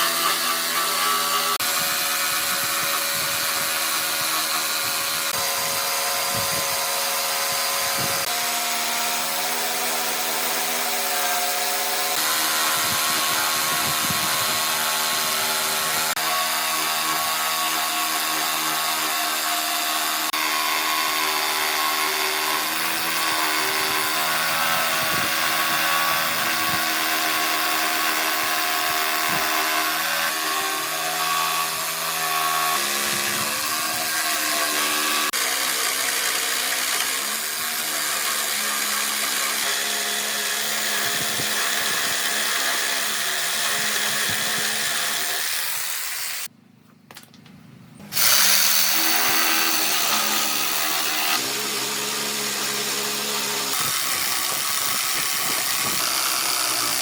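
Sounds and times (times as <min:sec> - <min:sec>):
power tool motor cutting wood: 0:00.0 - 0:46.5, 0:48.1 - 0:57.0.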